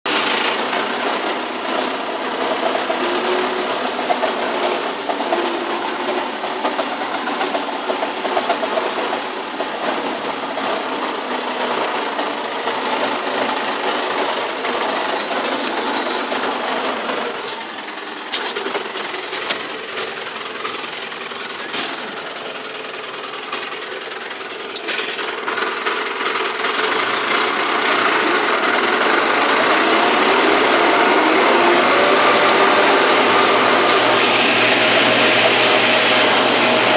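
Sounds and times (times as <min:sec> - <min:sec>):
tractor diesel engine rattling: 0:00.1 - 0:36.9.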